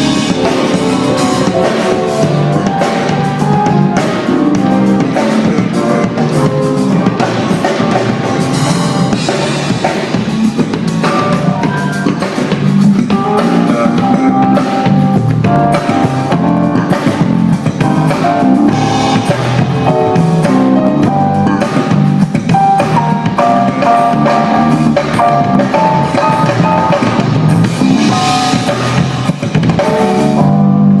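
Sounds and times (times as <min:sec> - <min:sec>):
drum kit playing: 0:00.0 - 0:31.0.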